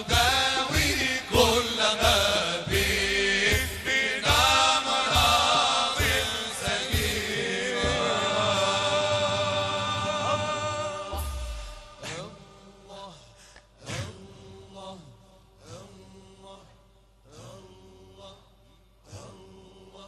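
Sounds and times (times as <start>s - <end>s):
men chanting: 0.0s - 20.0s.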